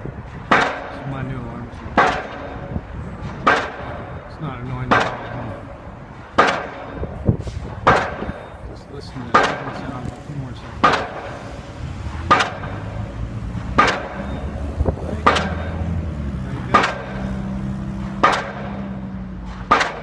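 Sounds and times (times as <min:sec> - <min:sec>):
heavy pounding bangs: 0:00.0 - 0:20.0.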